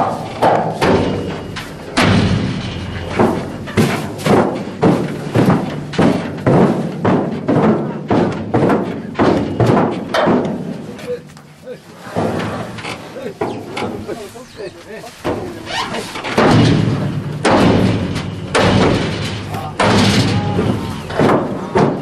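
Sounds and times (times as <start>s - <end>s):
heavy thumps on steel crate: 0.0s - 11.4s, 15.2s - 22.0s.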